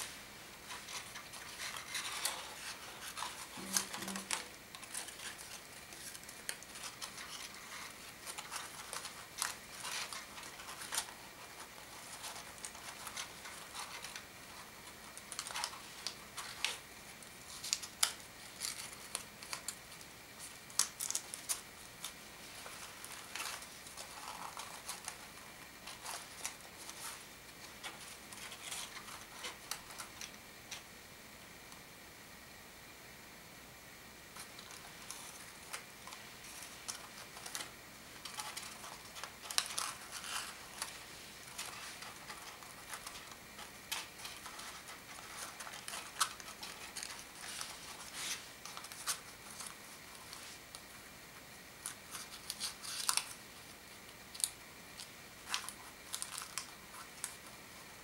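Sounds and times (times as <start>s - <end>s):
paper crinkling and rustling: 0.0s - 30.9s, 34.3s - 51.1s, 51.8s - 58.0s.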